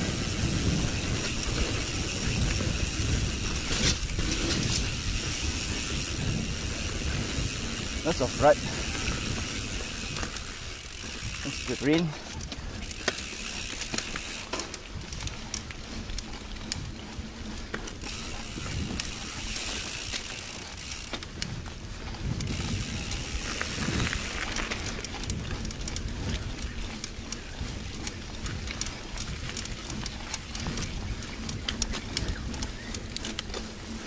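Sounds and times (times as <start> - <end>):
bicycle freewheel ratcheting: 0.0 - 34.0
bike rattling over bumps: 0.0 - 34.0
tyres rolling over dirt: 0.0 - 34.0.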